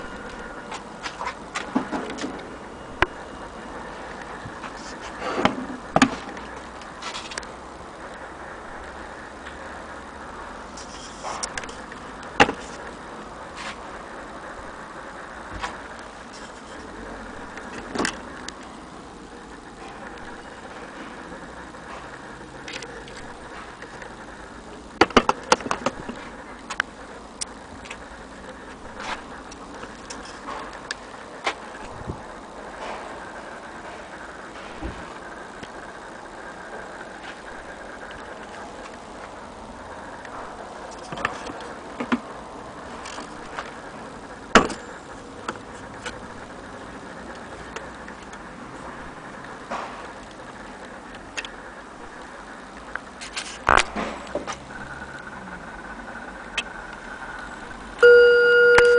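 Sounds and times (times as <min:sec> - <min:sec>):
steady low hiss: 0:00.0 - 0:58.1.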